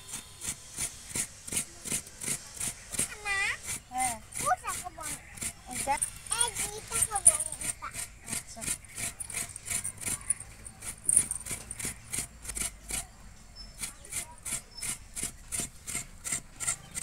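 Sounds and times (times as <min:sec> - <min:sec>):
coconut scraped on grater blade: 0:00.0 - 0:17.0.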